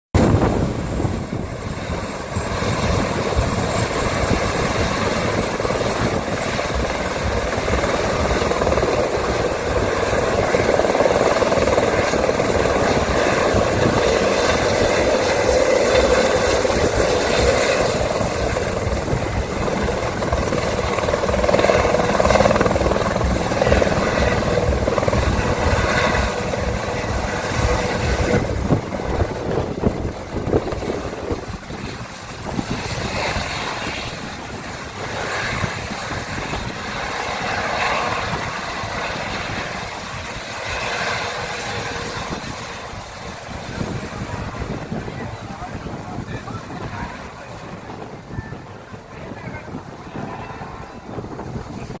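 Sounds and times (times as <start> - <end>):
helicopter rotor beat: 0.2 - 52.0
turbine whine: 0.2 - 52.0.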